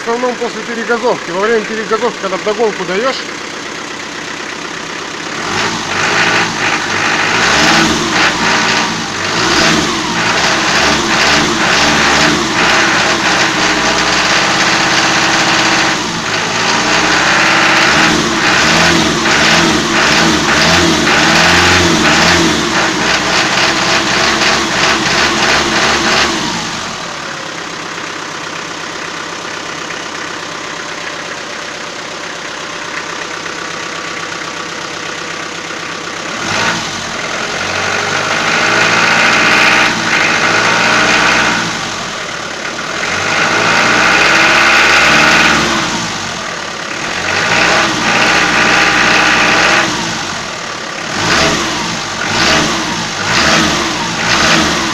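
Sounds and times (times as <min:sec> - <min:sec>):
diesel engine revving and knocking: 0:00.0 - 0:54.9.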